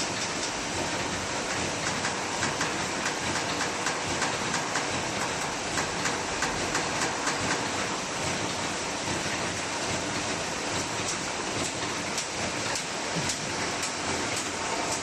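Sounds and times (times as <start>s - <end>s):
constant machine noise: 0.0s - 15.0s
machine mechanism clicking rhythmically: 0.0s - 15.0s.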